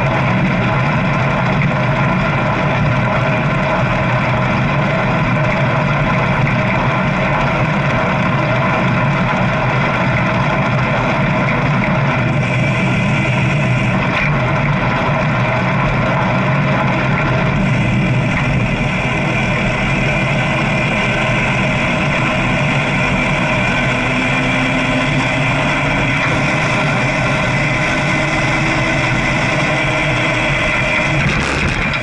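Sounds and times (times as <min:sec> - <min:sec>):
motorcycle engine droning: 0:00.0 - 0:32.0.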